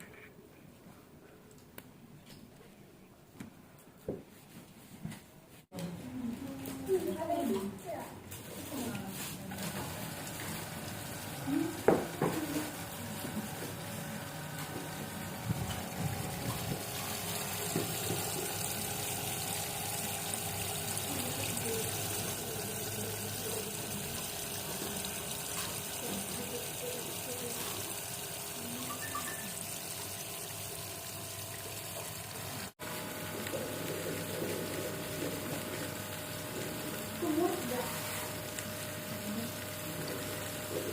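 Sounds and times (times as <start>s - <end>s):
faint pump hum: 5.1s - 40.9s.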